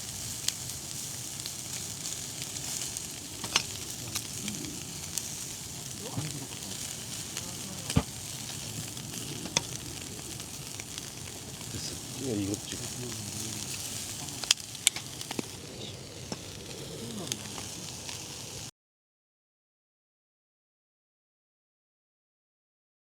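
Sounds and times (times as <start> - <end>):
food sizzling in a pan: 0.0 - 18.7
sharp pops and crackles: 0.0 - 18.7.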